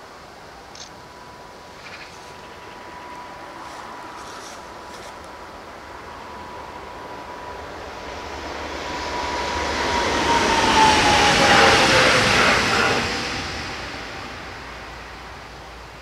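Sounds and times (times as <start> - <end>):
high train whine: 0.0 - 16.0
train wheels on rails: 1.7 - 16.0.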